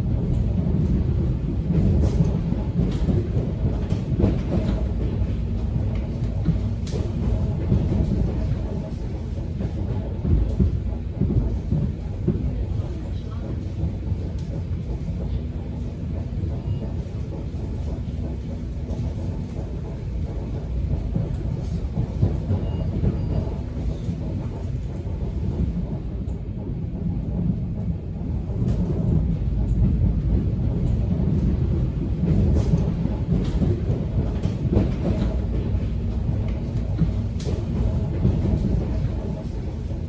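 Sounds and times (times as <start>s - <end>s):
subway train rumble: 0.0s - 40.0s
train rattles and clicks: 0.0s - 40.0s.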